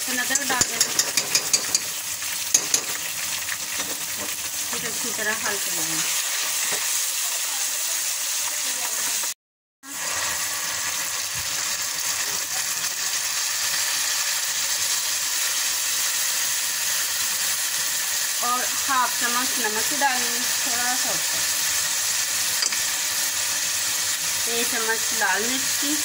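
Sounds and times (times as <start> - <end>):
onions sizzling in hot ghee: 0.0 - 26.0.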